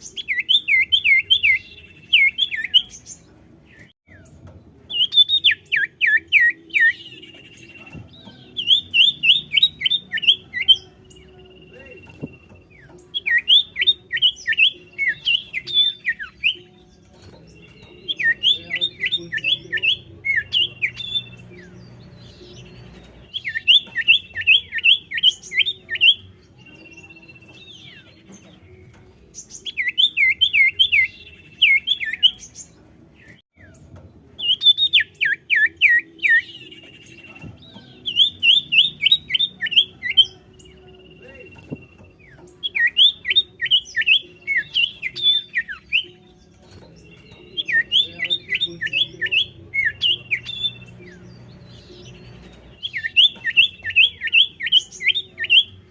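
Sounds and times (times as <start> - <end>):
bird singing sharp notes: 0.0 - 55.9.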